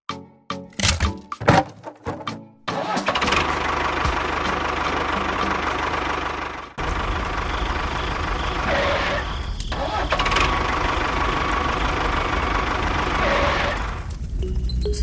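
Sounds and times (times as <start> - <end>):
mini bulldozer engine chugging: 2.7 - 15.0.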